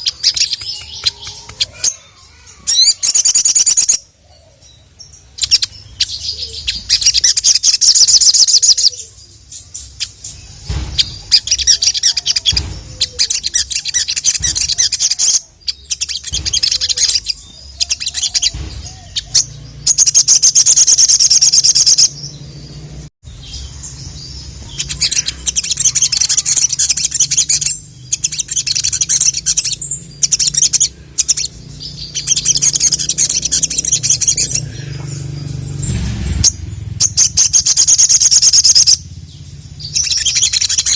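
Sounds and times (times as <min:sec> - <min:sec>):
songbird chattering trills: 0:00.0 - 0:40.9.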